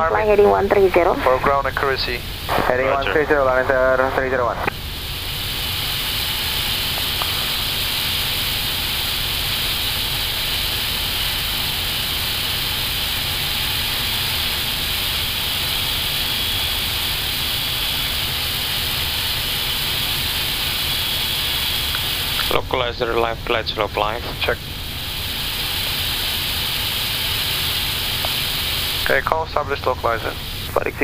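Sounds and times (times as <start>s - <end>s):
rushing hiss of airflow: 4.8s - 22.6s, 23.3s - 31.0s.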